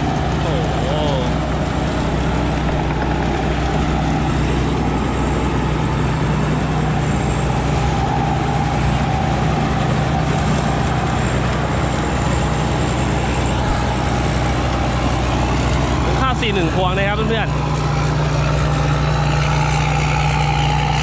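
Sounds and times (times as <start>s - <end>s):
combine harvester running: 0.0s - 21.0s
steady machine whine: 0.0s - 21.0s.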